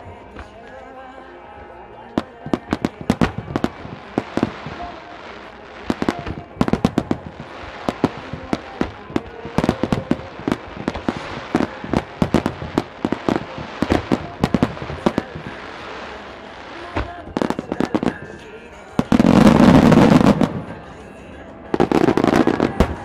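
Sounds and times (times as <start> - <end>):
fireworks shells bursting: 2.2 - 23.0.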